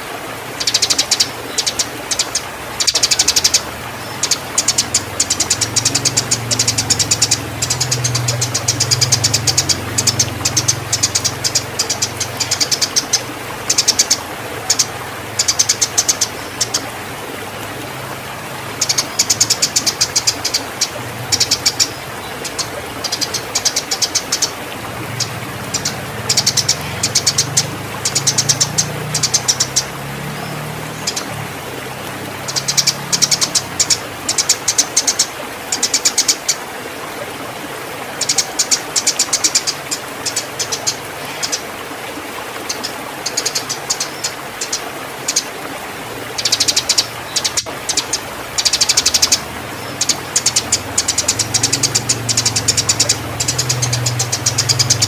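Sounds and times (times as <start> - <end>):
sparrows chirping and chattering: 0.6 - 16.8, 18.8 - 31.4, 32.4 - 36.5, 42.7 - 45.5, 46.4 - 55.0.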